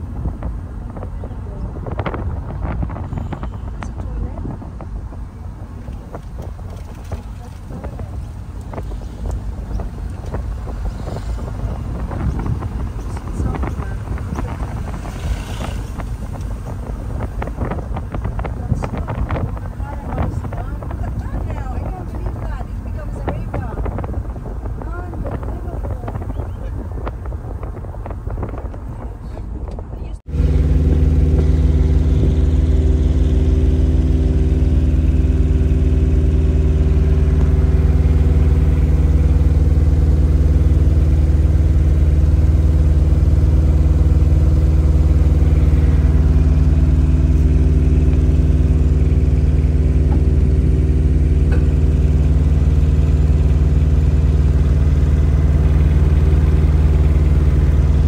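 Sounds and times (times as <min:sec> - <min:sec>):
diesel engine drone: 0:00.0 - 0:58.0
wind noise on microphone: 0:00.0 - 0:58.0.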